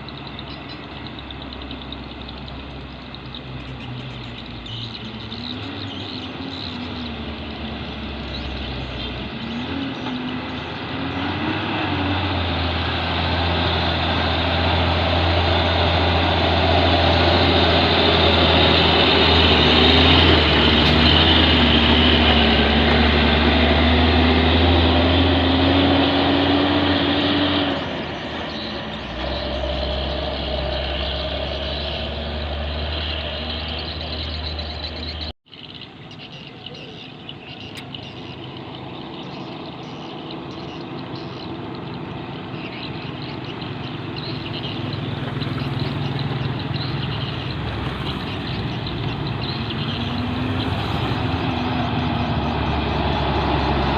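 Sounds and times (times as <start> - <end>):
truck diesel engine straining: 0.0 - 35.4, 37.7 - 53.9.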